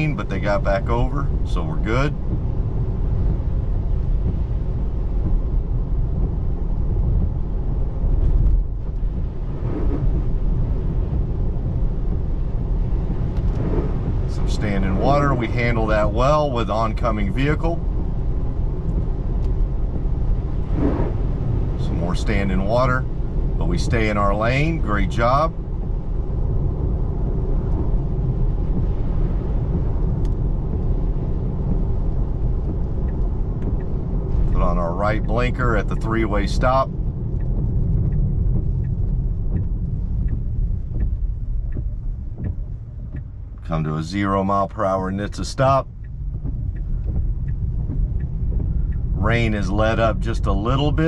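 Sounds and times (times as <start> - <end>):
road and tyre noise in car: 0.0 - 51.0.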